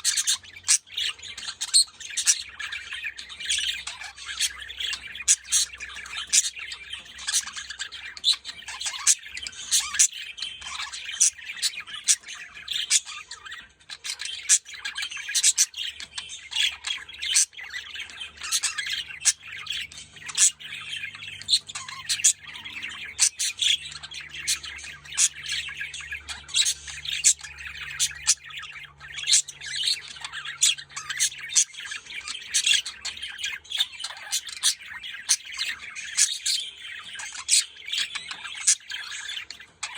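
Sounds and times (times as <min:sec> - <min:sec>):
budgerigars chattering and warbling: 0:00.0 - 0:39.9
sharp bird chirps and squawks: 0:00.0 - 0:39.9.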